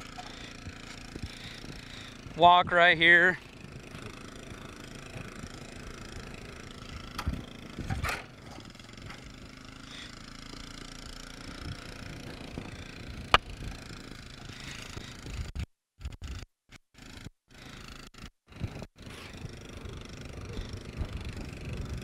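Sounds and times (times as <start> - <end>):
vehicle engine hum: 0.0 - 16.4, 17.0 - 22.0.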